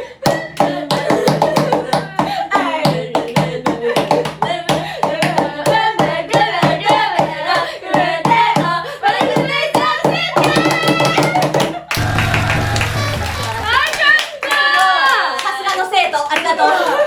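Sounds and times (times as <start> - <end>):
rhythmic hand claps and slaps: 0.2 - 16.6.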